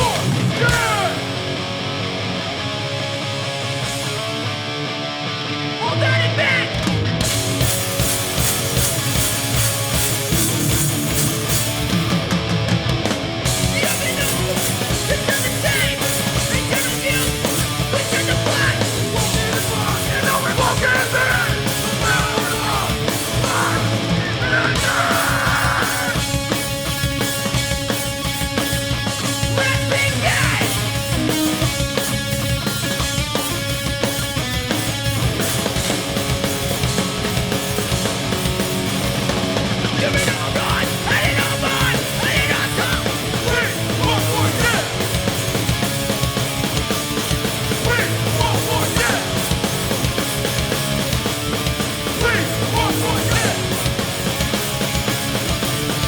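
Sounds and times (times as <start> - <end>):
hardcore punk band playing: 0.0 - 56.0.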